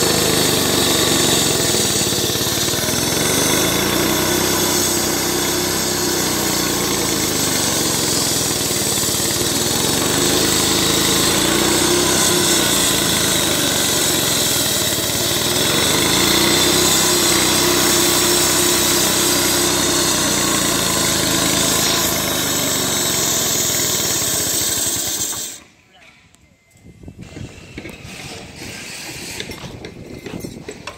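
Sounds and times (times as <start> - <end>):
saw blade grinding hiss: 0.0 - 25.7
concrete saw engine drone: 0.0 - 25.8.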